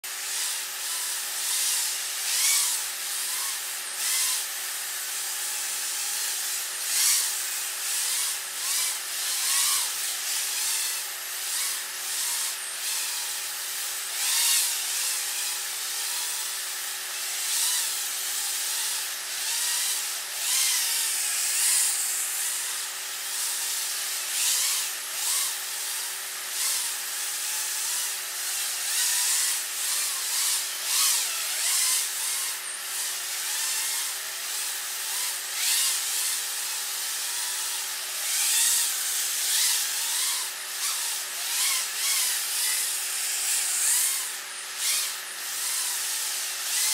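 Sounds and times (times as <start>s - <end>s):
drone motors buzzing: 0.0s - 46.9s.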